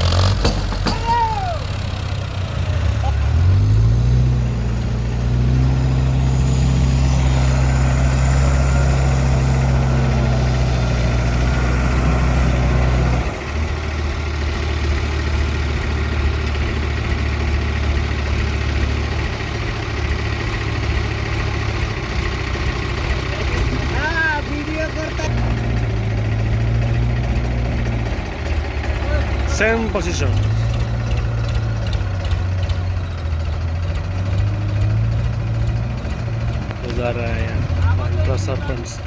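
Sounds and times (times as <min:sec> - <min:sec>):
diesel engine revving then idling: 0:00.0 - 0:39.0.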